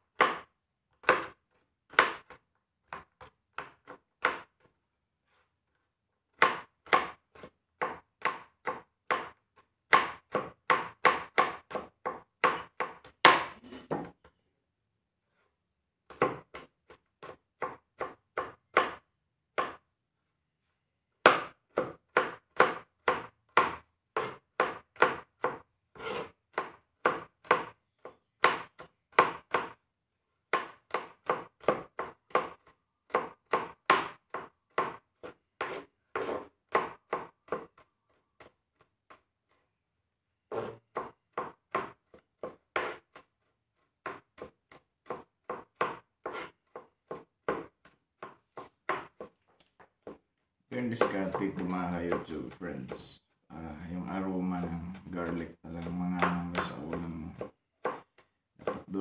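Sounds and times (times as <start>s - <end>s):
knife chopping on cutting board: 0.2s - 4.5s, 6.4s - 14.1s, 16.1s - 19.8s, 21.2s - 29.8s, 30.5s - 37.8s, 40.5s - 43.3s, 44.0s - 50.2s, 50.8s - 53.1s, 54.6s - 59.0s.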